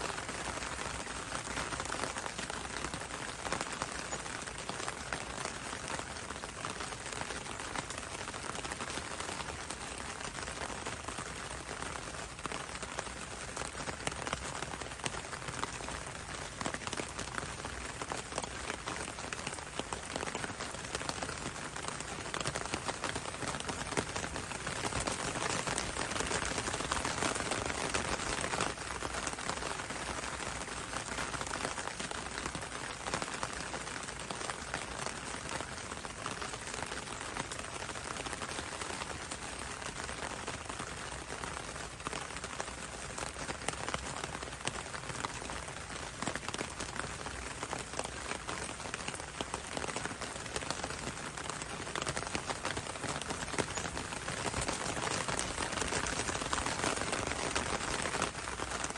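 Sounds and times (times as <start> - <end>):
rain falling on leaves: 0.0 - 58.9.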